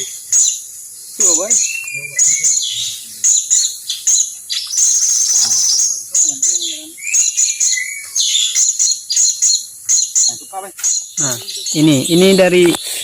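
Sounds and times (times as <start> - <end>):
insects droning: 0.0 - 13.0
small birds chirping: 0.0 - 13.0.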